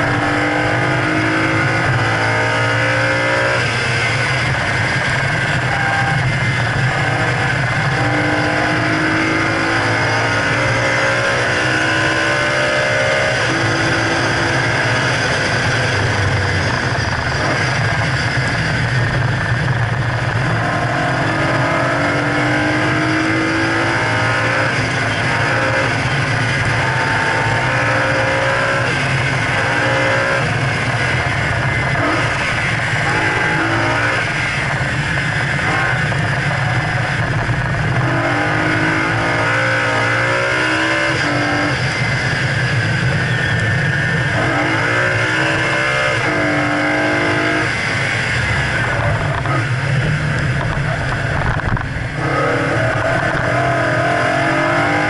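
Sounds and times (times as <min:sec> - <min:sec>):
car engine revving hard: 0:00.0 - 0:55.0
road noise drone: 0:00.0 - 0:55.0.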